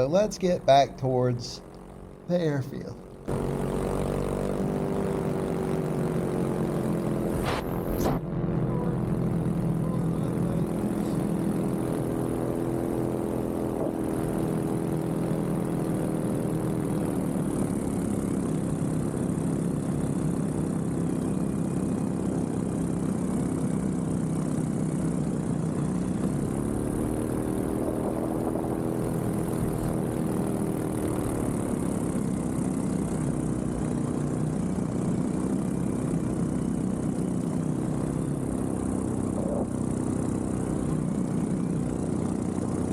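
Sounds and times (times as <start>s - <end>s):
paramotor engine and propeller: 0.0s - 42.9s.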